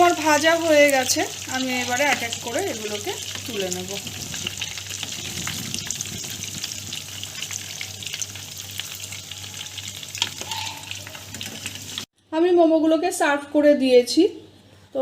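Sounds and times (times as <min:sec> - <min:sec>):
oil sizzling and crackling: 0:00.0 - 0:12.1.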